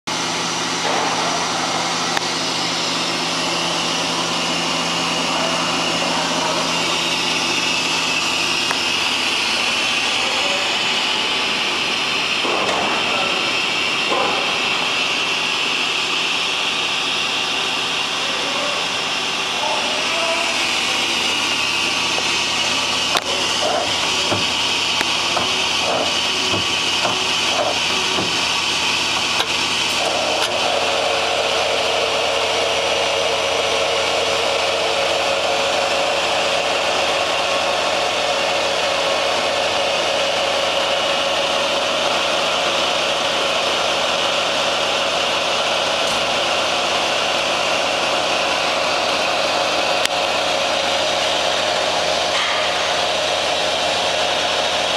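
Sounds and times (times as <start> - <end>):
machine whir: 0.1 - 54.9.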